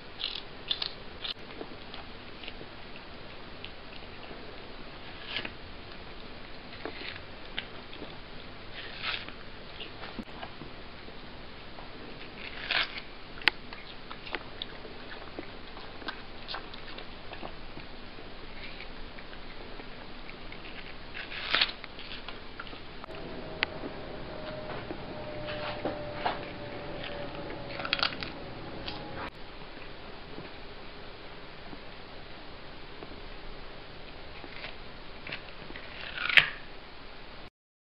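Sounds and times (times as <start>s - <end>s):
cat chewing watermelon: 0.2s - 11.3s, 12.0s - 29.1s, 34.1s - 36.6s.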